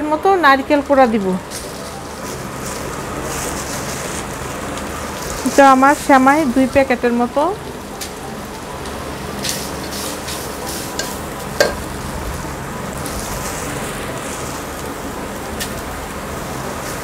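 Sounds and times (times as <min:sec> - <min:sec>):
food sizzling in pan: 0:00.1 - 0:17.0.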